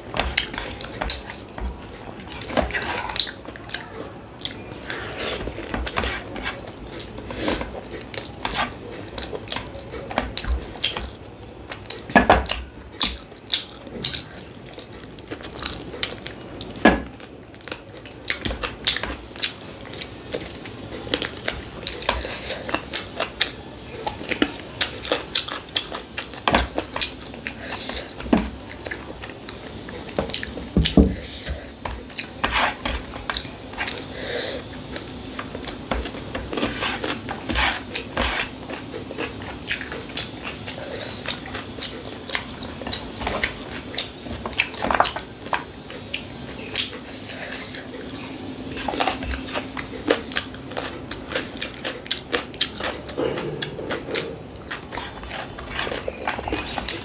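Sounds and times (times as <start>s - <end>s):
person chewing with smacks: 0.0s - 57.0s.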